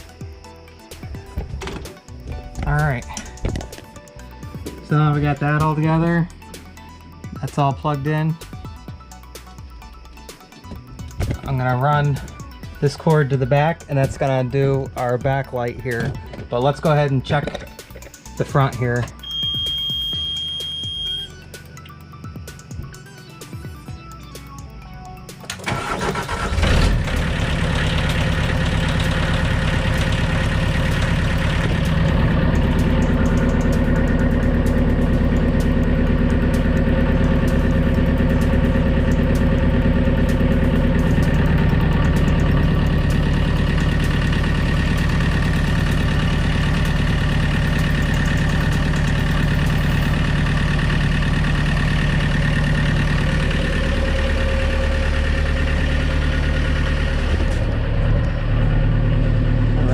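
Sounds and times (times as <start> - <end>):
excavator engine idling: 0.0 - 59.9.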